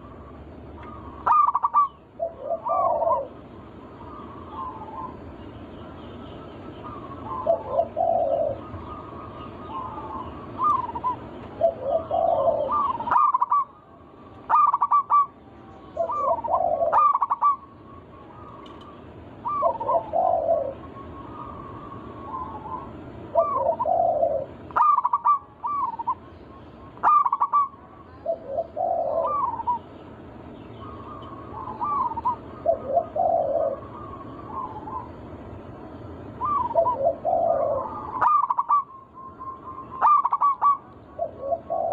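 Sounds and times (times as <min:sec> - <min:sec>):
doves cooing: 0:00.0 - 0:05.5, 0:06.4 - 0:41.9.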